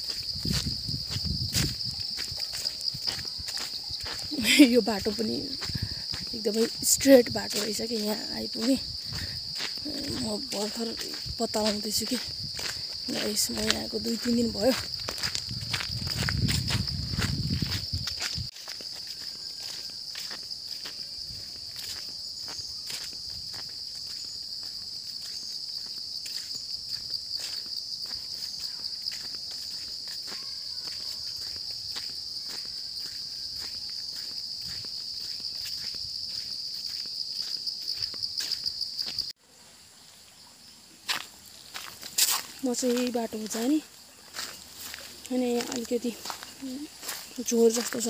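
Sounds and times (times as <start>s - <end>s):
footsteps on dirt path: 0.0s - 39.4s, 41.0s - 48.0s
insects droning: 0.0s - 48.0s.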